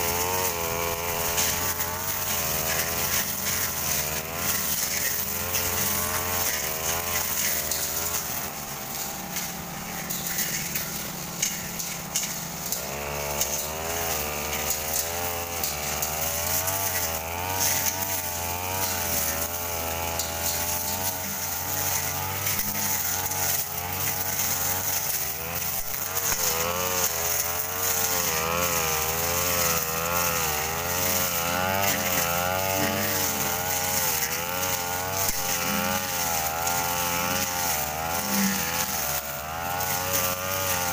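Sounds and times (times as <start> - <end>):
brush cutter engines under load: 0.0 - 40.9.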